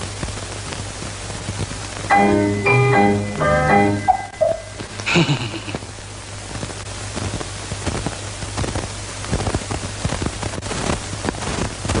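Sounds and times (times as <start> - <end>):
crackles and pops: 0.0 - 2.1, 4.5 - 12.0
film soundtrack hiss: 0.0 - 12.0.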